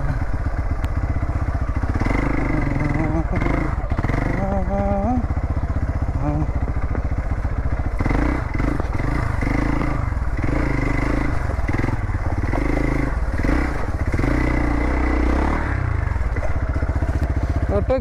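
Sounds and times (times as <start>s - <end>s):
motorcycle clatter: 0.0s - 18.0s
motorcycle engine revving: 0.0s - 18.0s.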